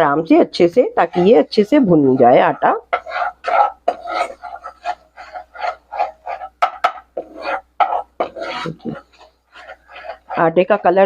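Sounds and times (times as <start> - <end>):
metal spoon scraping a pan: 0.6 - 11.0.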